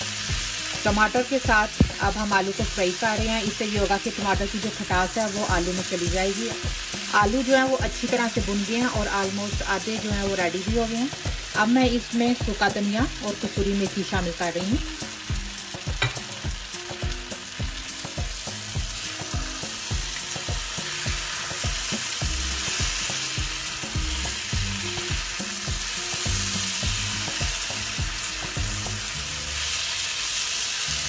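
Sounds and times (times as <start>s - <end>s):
potatoes sizzling in oil: 0.0s - 31.0s.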